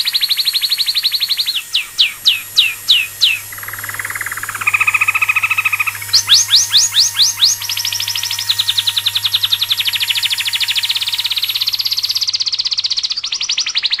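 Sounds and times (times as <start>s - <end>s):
songbird trilling: 0.0s - 12.4s.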